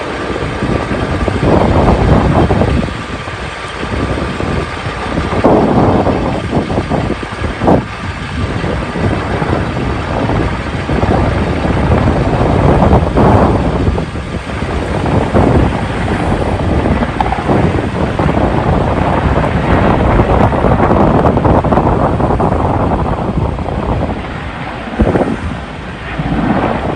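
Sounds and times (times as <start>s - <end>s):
helicopter flying past: 0.0s - 21.6s, 22.4s - 26.9s
wind buffeting microphone: 0.0s - 26.9s.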